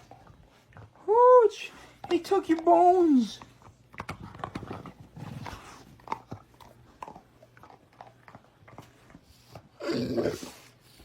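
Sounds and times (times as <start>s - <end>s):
dog chewing and crunching: 0.0s - 1.2s, 1.9s - 11.0s.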